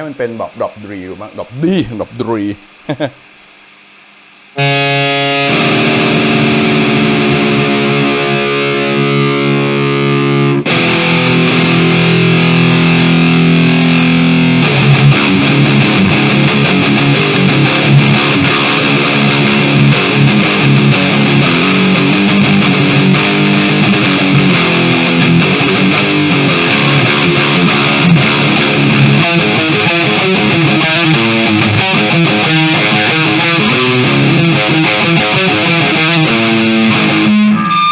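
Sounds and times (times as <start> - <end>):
distorted electric guitar: 0.0 - 37.9.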